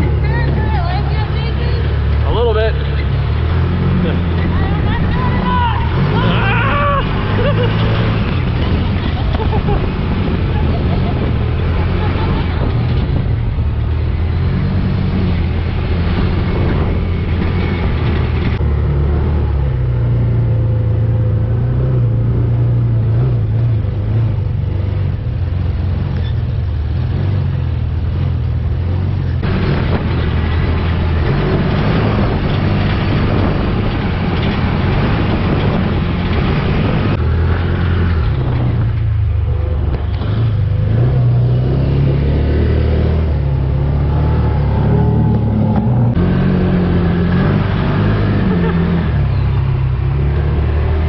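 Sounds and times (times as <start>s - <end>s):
utility vehicle engine droning: 0.0s - 51.0s
wind and trail noise: 0.0s - 51.0s.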